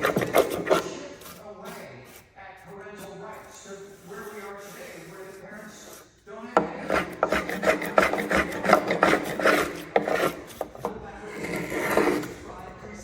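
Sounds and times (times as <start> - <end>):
blade scraping wood: 0.0 - 12.6.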